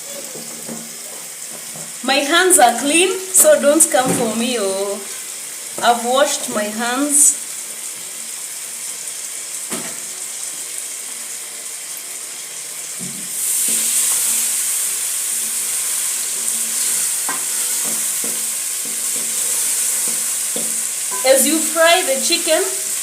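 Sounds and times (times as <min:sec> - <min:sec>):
chicken frying in hot oil: 0:00.0 - 0:23.0.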